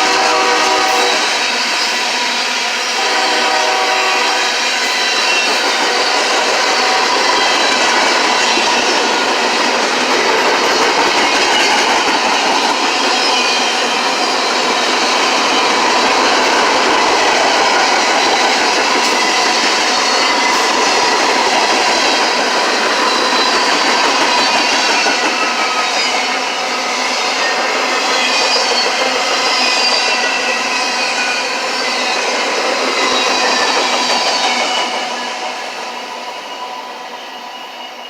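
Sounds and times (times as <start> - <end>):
train wheels clacking on rails: 0.0 - 38.0.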